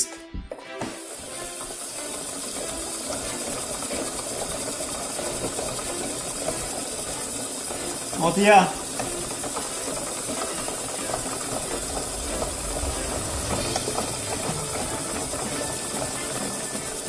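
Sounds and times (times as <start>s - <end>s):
spinning discs rattling and ticking: 0.9s - 17.0s.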